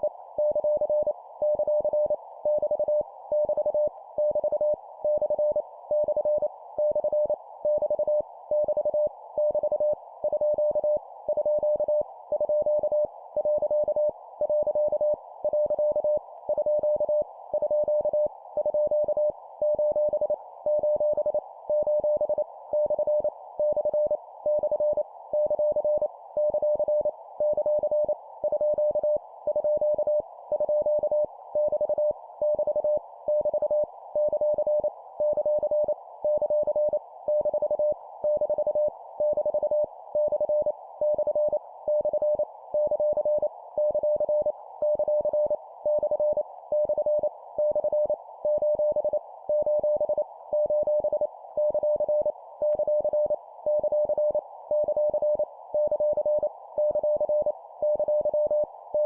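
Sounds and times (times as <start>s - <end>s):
morse code beeps: 0.4s - 59.0s.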